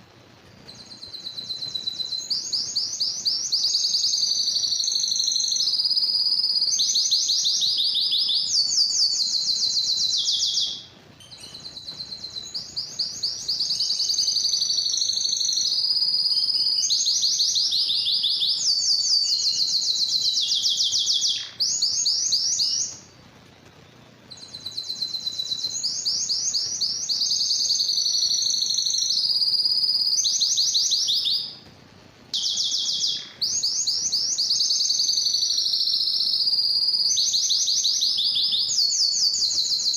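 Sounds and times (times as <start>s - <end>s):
canary singing: 0.1s - 39.9s.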